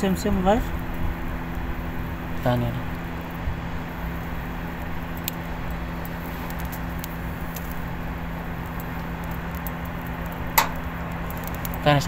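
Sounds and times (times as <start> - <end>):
steady low hum: 0.0 - 12.0
torch flame hissing: 0.0 - 12.0
faint crackles: 0.7 - 12.0.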